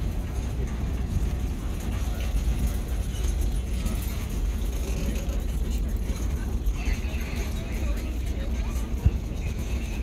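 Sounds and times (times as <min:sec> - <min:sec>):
clatter of train wheels: 0:00.0 - 0:10.0
train rumble: 0:00.0 - 0:10.0.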